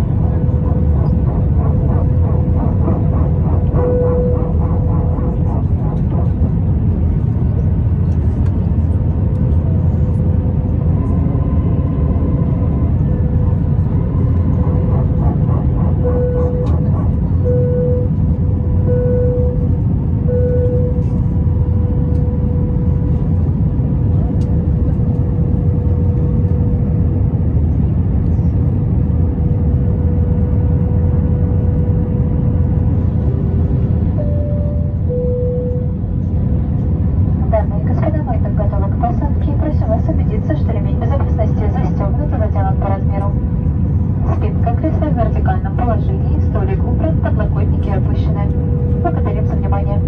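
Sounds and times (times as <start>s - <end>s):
airplane engines and airflow rumble: 0.0s - 50.0s
steady hum: 0.0s - 50.0s.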